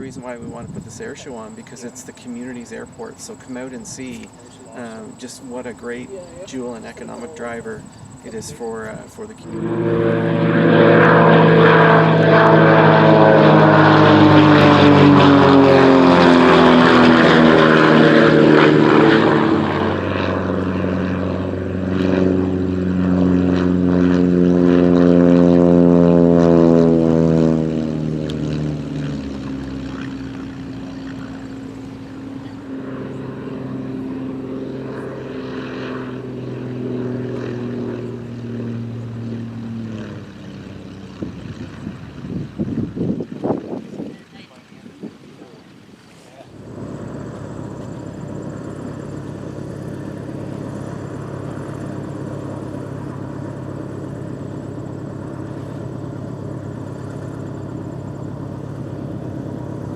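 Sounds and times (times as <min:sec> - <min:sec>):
propeller airplane engine passing: 0:00.0 - 0:59.9.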